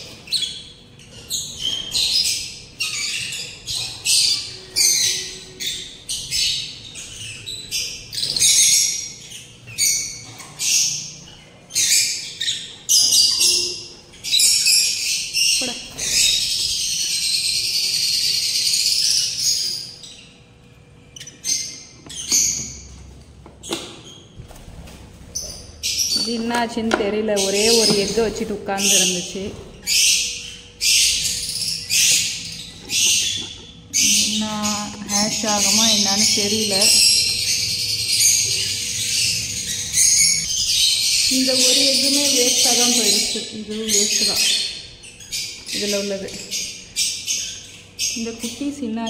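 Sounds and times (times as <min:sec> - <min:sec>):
lovebirds chirping: 0:00.0 - 0:49.0.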